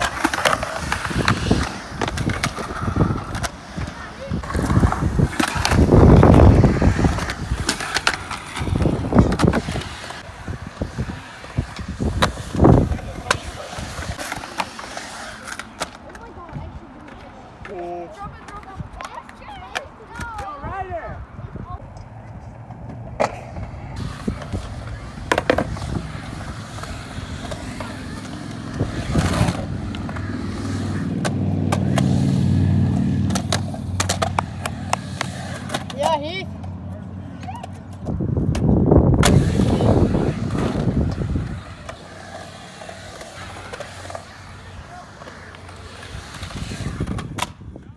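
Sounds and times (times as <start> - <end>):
skateboard clacks: 0.0 - 20.6, 22.7 - 47.9
skateboard wheels rolling on concrete: 0.0 - 47.9.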